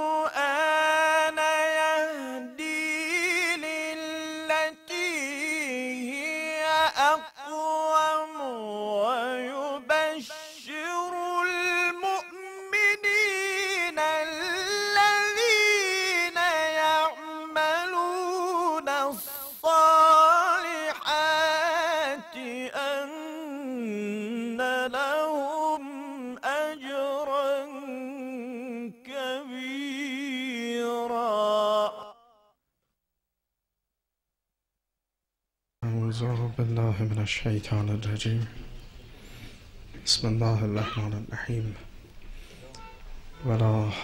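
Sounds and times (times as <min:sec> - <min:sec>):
solo voice chanting recitation: 0:00.0 - 0:32.2, 0:35.8 - 0:38.7, 0:40.0 - 0:44.0.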